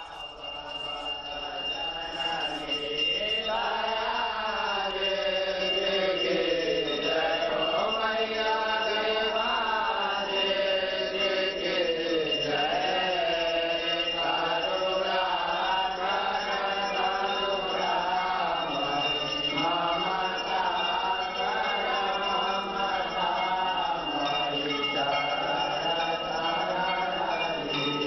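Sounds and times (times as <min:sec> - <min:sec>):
men chanting a hymn: 0:00.0 - 0:28.0.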